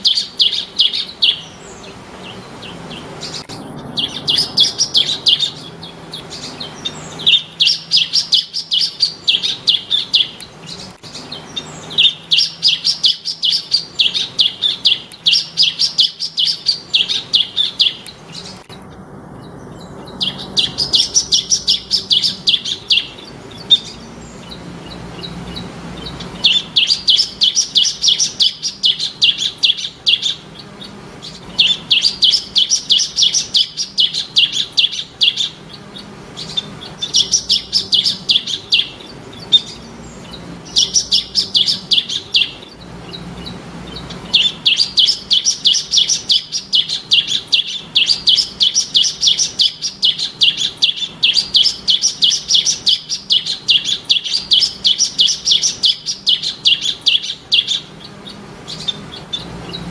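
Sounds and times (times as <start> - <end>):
bird singing rapid high chirps: 0.0 - 59.9.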